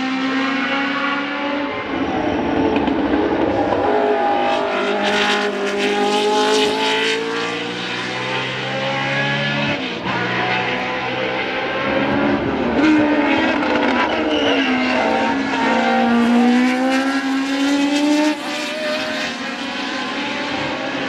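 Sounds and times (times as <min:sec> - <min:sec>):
racing car engines at high revs: 0:00.0 - 0:21.0.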